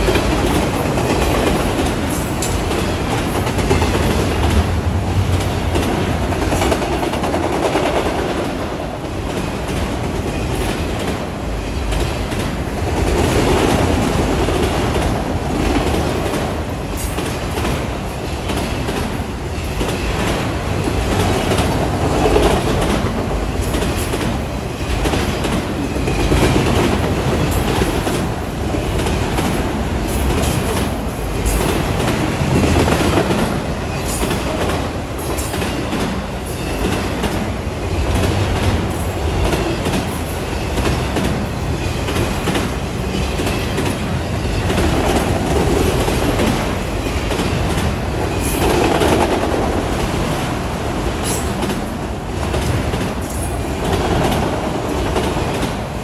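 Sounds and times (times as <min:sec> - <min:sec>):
train wheels rumbling on rail: 0:00.0 - 0:56.0
wheels clickety-clack over rail joints: 0:00.0 - 0:56.0.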